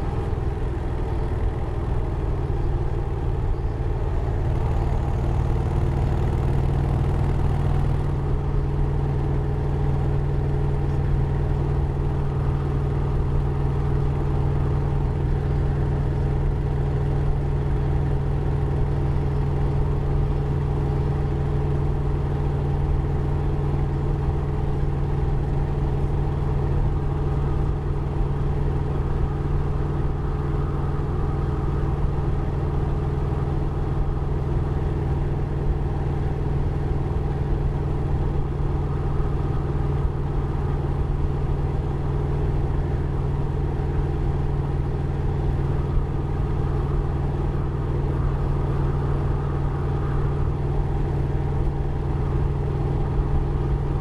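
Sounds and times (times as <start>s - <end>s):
motorcycle engine running: 0.0s - 50.5s.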